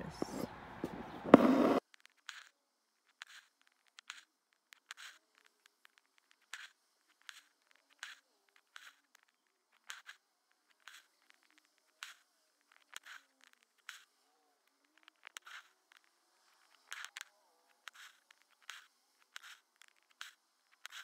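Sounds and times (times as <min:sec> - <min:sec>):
thread pulled through fabric: 0:01.3 - 0:14.1, 0:14.7 - 0:21.0.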